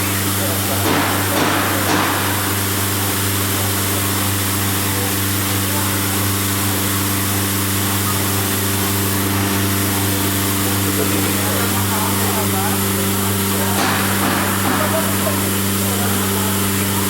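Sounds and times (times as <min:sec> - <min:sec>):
vacuum pump humming and hissing: 0:00.0 - 0:17.0.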